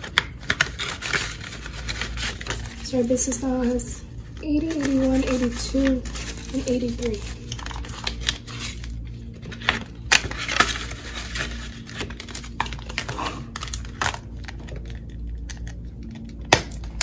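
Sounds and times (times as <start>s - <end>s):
banknotes and plastic rustling: 0.0s - 16.9s.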